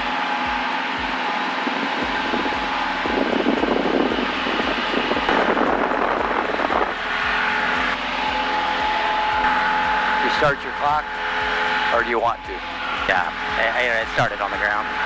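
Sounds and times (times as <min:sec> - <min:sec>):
airplane engine and propeller: 0:00.0 - 0:15.0
rushing air noise: 0:00.0 - 0:15.0.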